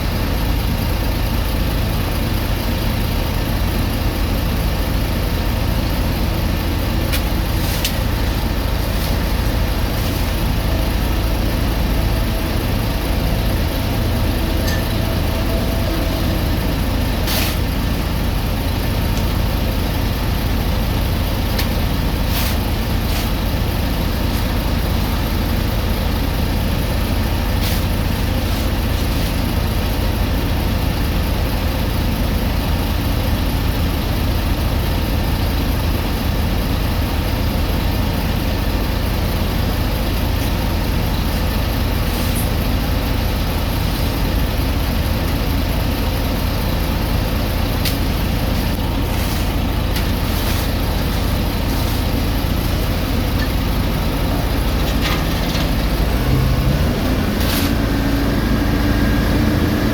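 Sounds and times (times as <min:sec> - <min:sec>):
diesel paving machinery running: 0:00.0 - 0:59.9.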